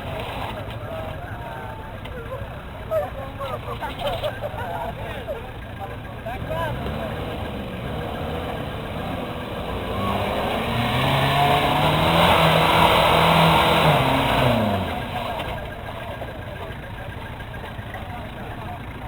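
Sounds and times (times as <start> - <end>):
off-road engine revving: 0.0 - 19.0.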